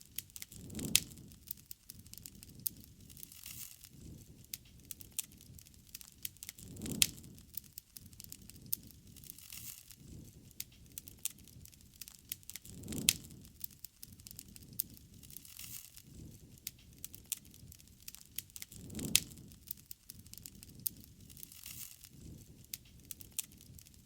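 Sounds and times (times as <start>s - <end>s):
campfire crackling and popping: 0.0s - 24.0s
low flame rumble: 0.0s - 24.0s.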